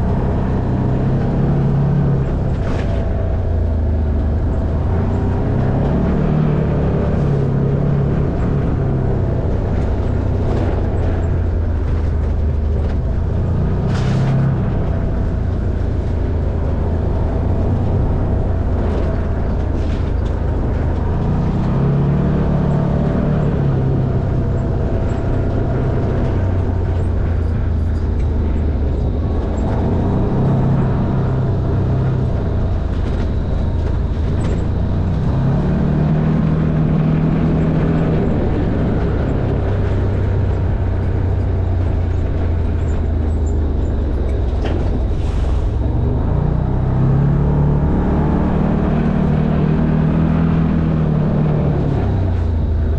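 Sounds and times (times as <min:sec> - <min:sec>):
vehicle knocks and rattles: 0:00.0 - 0:45.2
utility vehicle engine running: 0:00.0 - 0:52.9.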